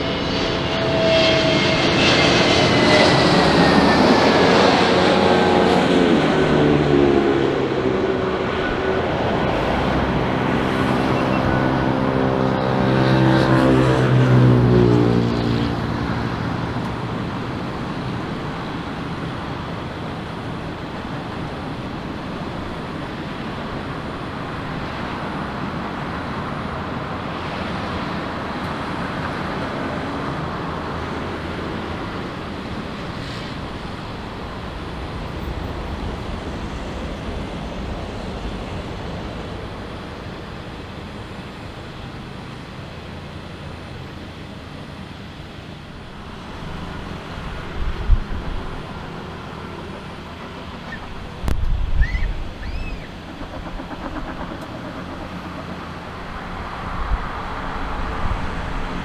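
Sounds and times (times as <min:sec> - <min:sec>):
jet airliner engine passing: 0:00.0 - 0:59.0.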